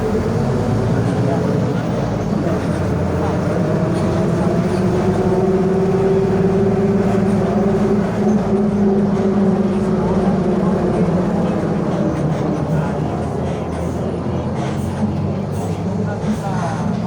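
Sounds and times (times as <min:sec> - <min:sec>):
bus differential growling: 0:00.0 - 0:17.0
diesel engine running: 0:00.0 - 0:17.0
road noise: 0:00.0 - 0:17.0.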